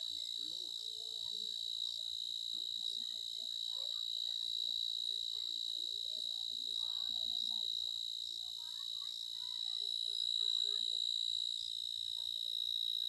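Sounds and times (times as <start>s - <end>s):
faint distant voices: 0.0s - 13.0s.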